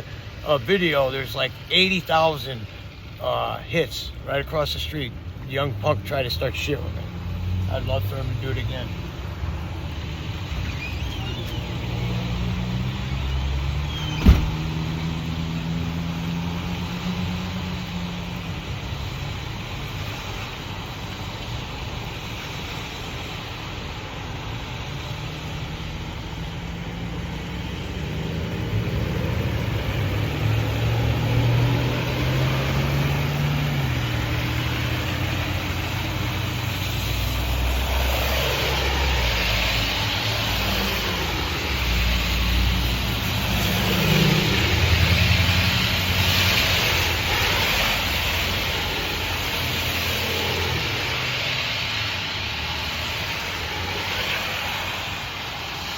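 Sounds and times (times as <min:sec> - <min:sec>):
vehicles passing on wet road: 0:00.0 - 0:55.9.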